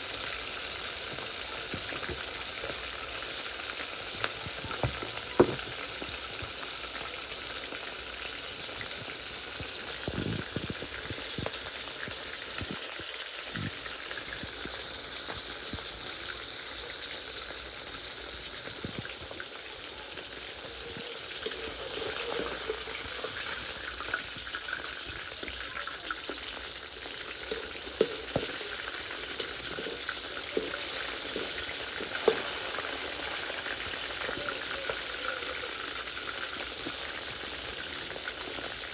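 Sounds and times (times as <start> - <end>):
food deep-frying sizzle: 0.0 - 38.9.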